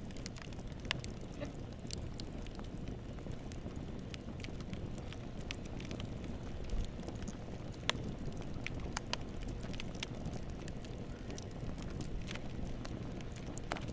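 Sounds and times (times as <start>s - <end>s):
bonfire flames rumbling: 0.0s - 13.9s
burning wood crackling and popping: 0.0s - 13.9s.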